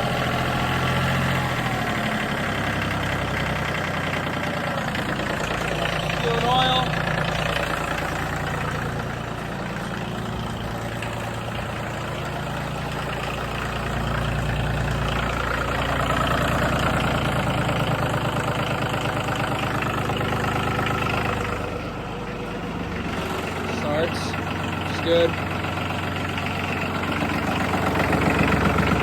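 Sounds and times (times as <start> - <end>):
diesel tractor engine idling: 0.0 - 29.0.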